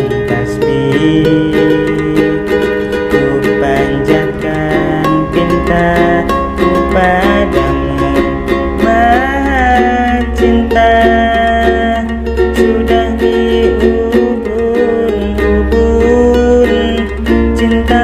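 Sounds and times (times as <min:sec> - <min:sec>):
man singing a slow ballad: 0:00.0 - 0:18.0
ukulele strumming: 0:00.0 - 0:18.0.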